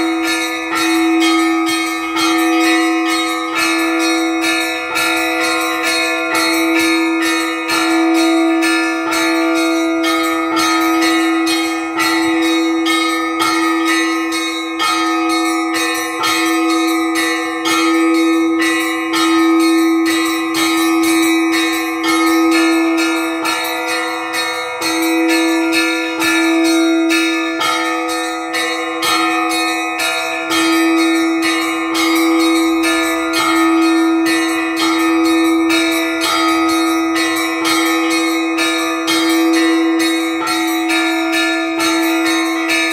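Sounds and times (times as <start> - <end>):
deep church bell: 0.0 - 42.9
small bells chiming: 0.0 - 42.9.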